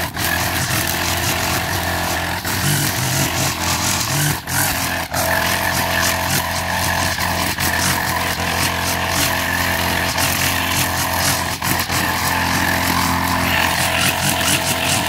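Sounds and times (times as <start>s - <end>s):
brush cutter engine cutting grass: 0.0s - 15.0s.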